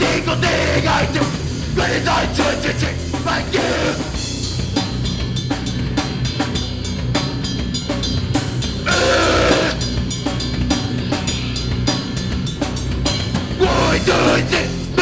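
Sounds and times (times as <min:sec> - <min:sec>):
drum kit fast beat: 0:00.0 - 0:15.0
rock band instrumental: 0:00.0 - 0:15.0.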